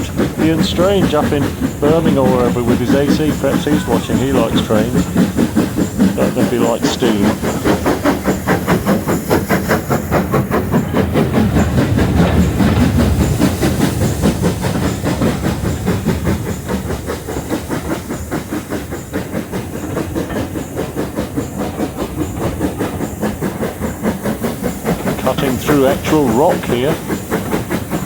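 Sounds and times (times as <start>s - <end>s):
steam hiss: 0.0s - 28.0s
steam locomotive chuffing: 0.0s - 28.0s.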